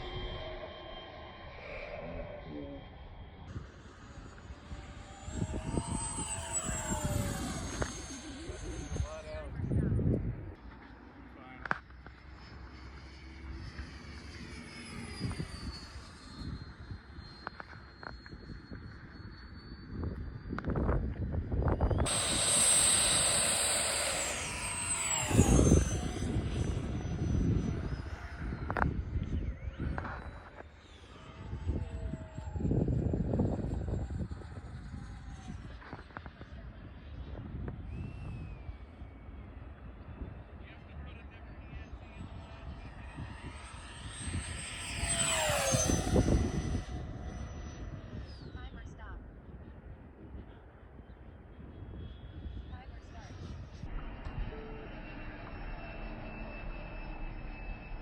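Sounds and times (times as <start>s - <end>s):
electric jet fan whine passing: 0.0s - 10.6s, 12.2s - 50.0s, 51.2s - 58.0s.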